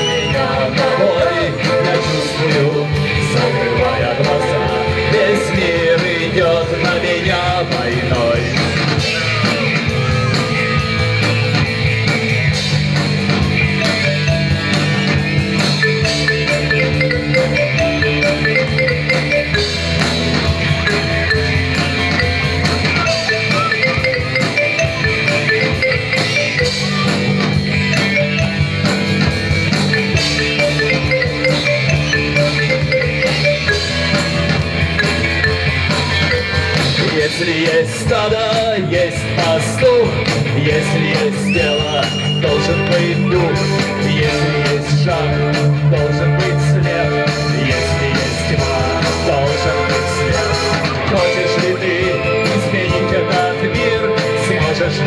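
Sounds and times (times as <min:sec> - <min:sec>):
bass: 0:00.0 - 0:55.0
drum kit: 0:00.0 - 0:55.0
electric guitars: 0:00.0 - 0:55.0
keyboard: 0:00.0 - 0:55.0.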